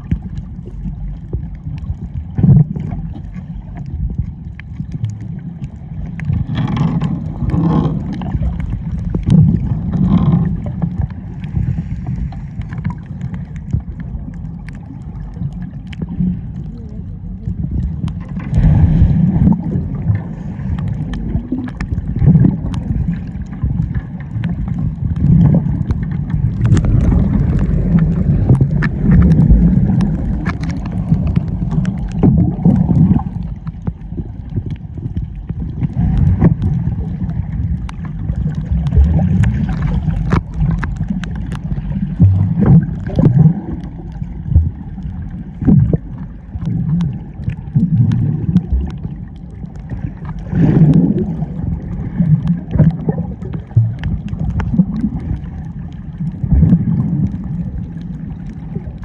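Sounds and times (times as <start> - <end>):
clicks underwater: 0.0 - 59.0
seawater sloshing and gurgling: 0.0 - 59.0.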